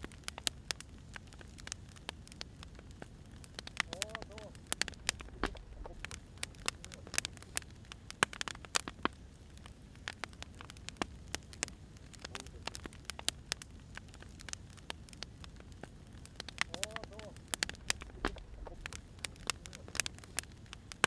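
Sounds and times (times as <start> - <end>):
firewood crackling and popping: 0.0 - 21.0
low steady hiss: 0.0 - 21.0.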